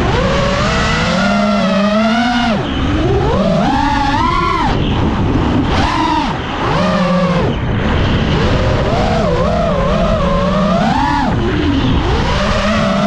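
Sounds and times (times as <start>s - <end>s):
drone motors whining: 0.0s - 13.0s
wind rushing over microphone: 0.0s - 13.0s.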